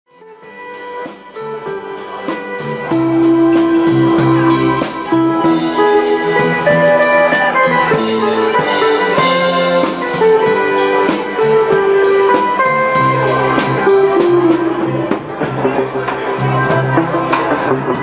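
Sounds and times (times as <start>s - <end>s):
guitar: 0.1s - 18.0s
keyboard melody: 0.2s - 18.0s
drum beat: 1.6s - 18.0s.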